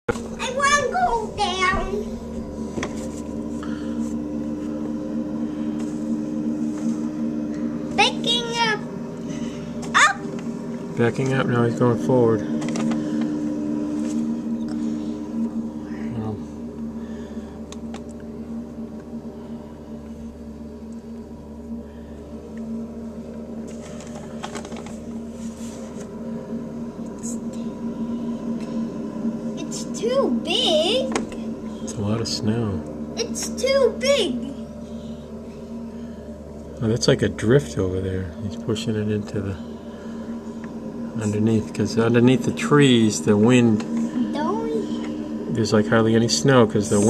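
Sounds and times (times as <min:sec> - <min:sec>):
loader engine humming and whining: 0:00.0 - 0:47.0.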